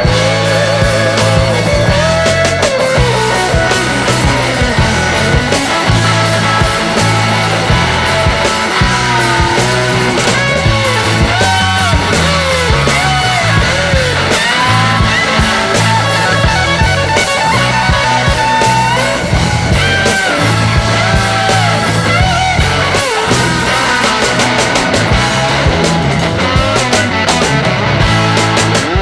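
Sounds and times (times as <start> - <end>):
rock music with gliding guitar: 0.0 - 29.0.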